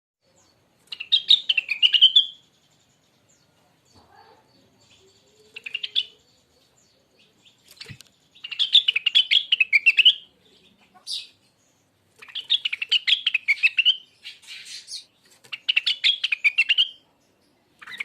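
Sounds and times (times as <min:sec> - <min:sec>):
songbird twittering: 0:00.2 - 0:18.0.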